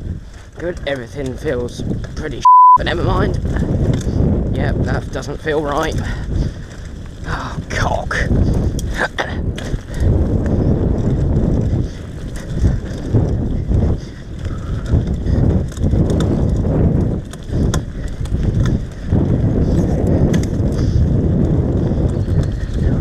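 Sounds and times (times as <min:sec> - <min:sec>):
bike chain and frame rattling: 0:00.0 - 0:23.0
bike tyres rumbling on dirt: 0:00.0 - 0:23.0.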